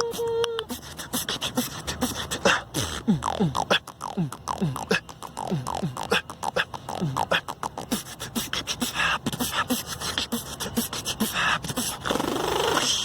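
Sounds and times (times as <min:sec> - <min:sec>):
beatboxing clicks and zaps: 0:00.0 - 0:13.0.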